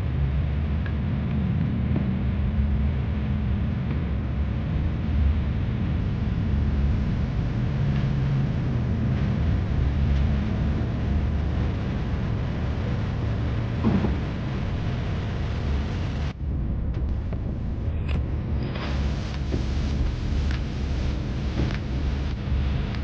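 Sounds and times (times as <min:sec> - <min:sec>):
heavy diesel engine drone: 0:04.2 - 0:23.0.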